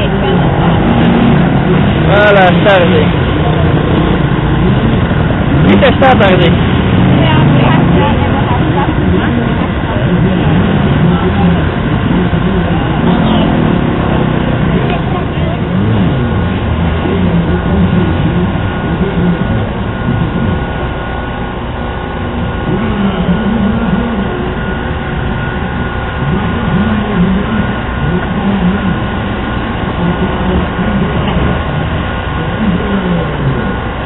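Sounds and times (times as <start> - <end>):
motocross bike engine revving: 0.0 - 34.0.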